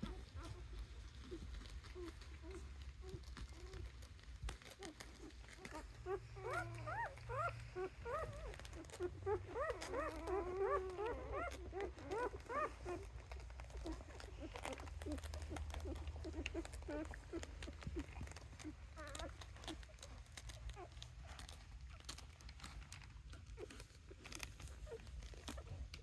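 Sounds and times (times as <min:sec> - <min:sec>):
puppies squeaking and whining: 0:00.0 - 0:26.0.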